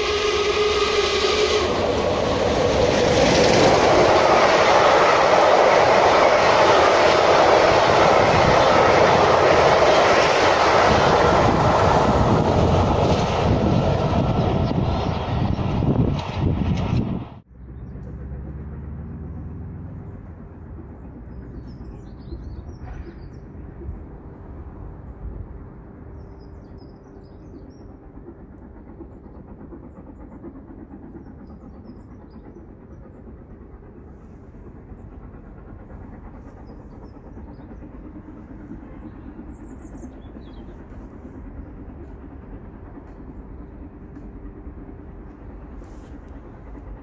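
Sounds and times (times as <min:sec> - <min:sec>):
distant steam train rumble: 0:00.0 - 0:47.0.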